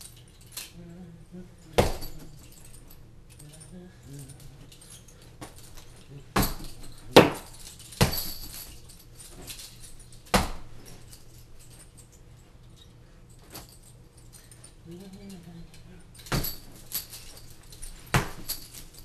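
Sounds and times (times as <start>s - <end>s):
metal chain clanking: 0.0s - 0.8s, 1.6s - 19.0s.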